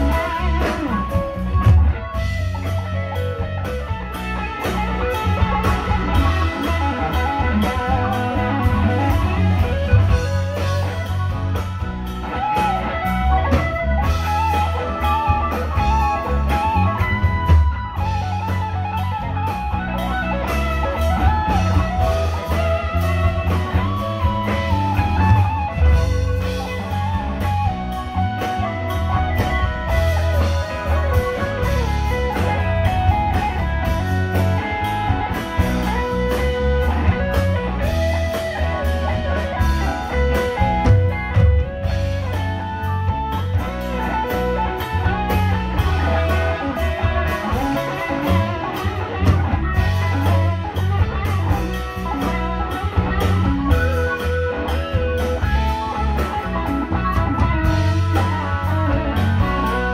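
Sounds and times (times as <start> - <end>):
bass guitar: 0.0 - 59.9
drums: 0.0 - 59.9
electric guitar lead line: 0.0 - 59.9.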